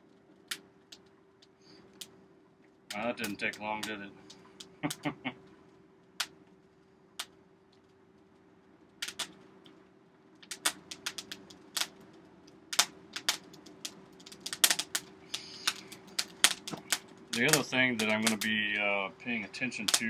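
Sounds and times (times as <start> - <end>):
forge fan humming: 0.0 - 20.0
kindling crackling and popping: 0.0 - 20.0.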